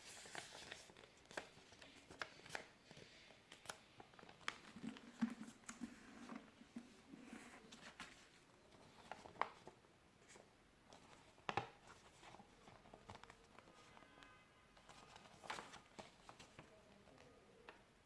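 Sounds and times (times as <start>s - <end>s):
paper rustling and creasing: 0.0s - 14.2s, 14.8s - 17.4s.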